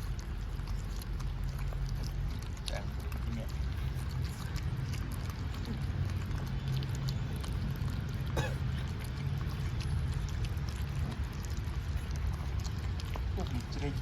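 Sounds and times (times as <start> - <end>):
puppies chewing and lapping: 0.0 - 14.0.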